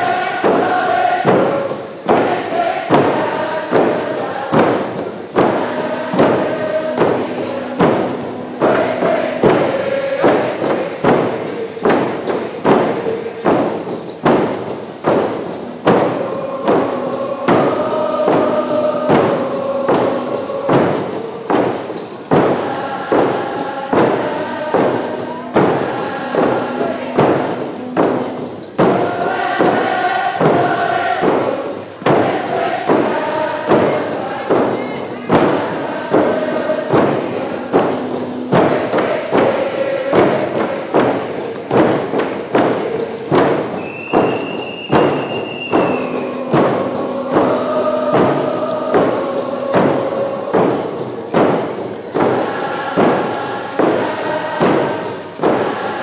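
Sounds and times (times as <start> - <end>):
group singing in unison: 0.0 - 56.0
hand drums steady beat: 0.0 - 56.0.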